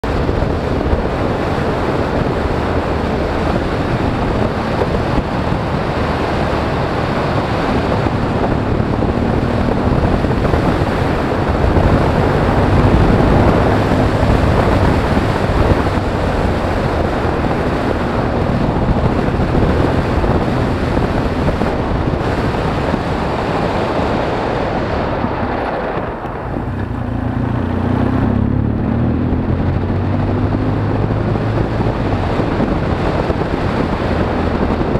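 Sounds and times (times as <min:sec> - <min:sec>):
motorcycle engine running: 0:00.0 - 0:34.9
wind rush over microphone: 0:00.0 - 0:34.9.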